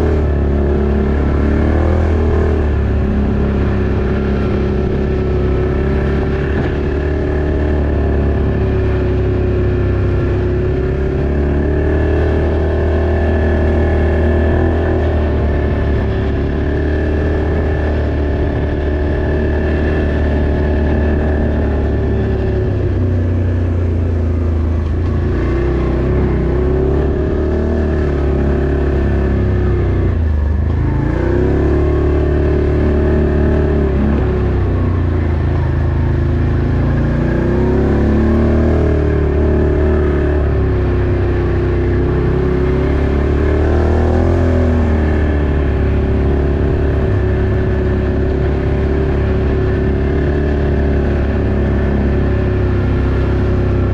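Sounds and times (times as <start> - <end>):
constant low drone: 0.0 - 53.9
off-road vehicle engine running: 0.0 - 53.9.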